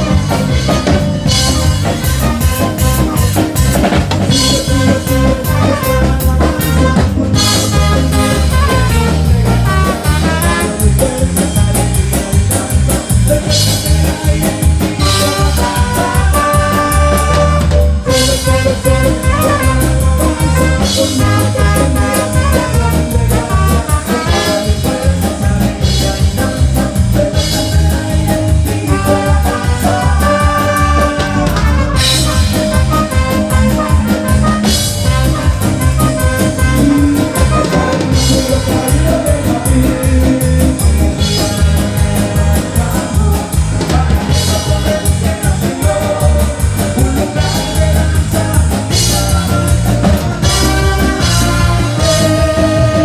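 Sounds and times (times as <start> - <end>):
drum kit fast beat: 0.0 - 53.0
live band playing praise music: 0.0 - 53.0.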